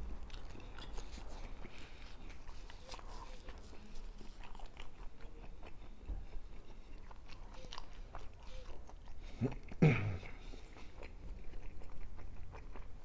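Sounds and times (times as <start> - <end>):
close-up chewing with crunches: 0.0 - 13.0.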